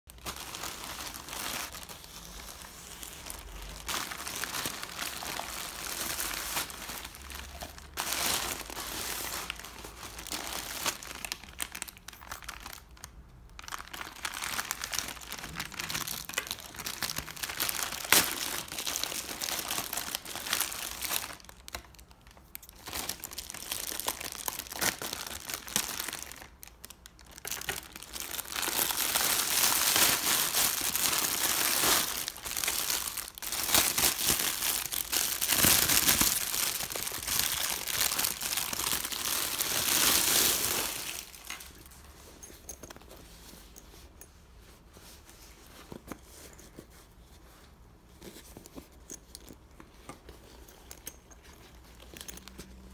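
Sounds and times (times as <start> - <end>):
plastic bag crinkling: 0.1 - 43.1.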